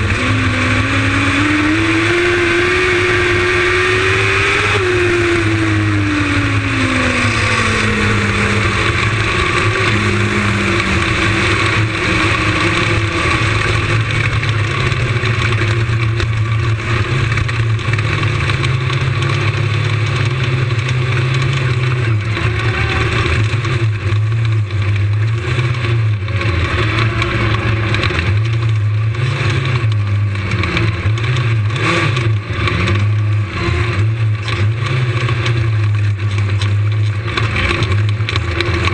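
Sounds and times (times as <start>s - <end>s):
race car engine slowing: 0.0s - 38.9s.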